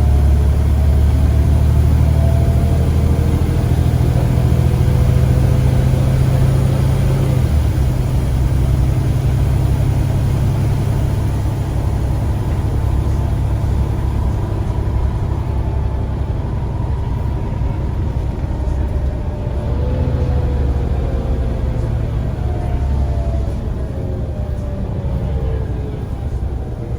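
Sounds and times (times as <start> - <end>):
bus engine running: 0.0 - 26.9.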